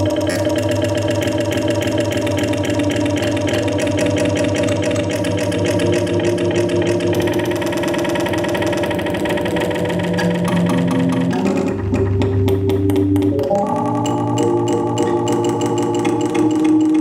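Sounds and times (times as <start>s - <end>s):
harsh electronic noise drone: 0.0s - 17.0s.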